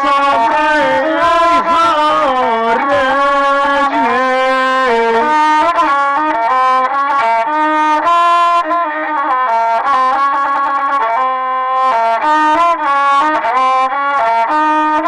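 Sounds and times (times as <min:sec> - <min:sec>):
bowed fiddle slow melody: 0:00.0 - 0:15.0.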